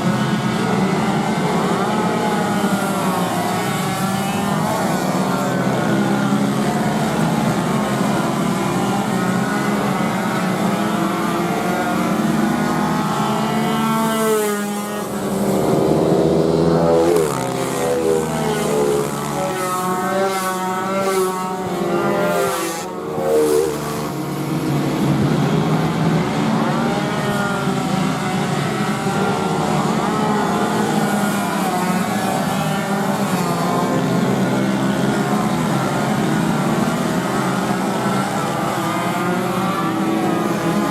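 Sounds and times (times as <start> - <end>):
motorcycles passing by: 0.0 - 40.9
racing motorcycle engines: 0.0 - 40.9.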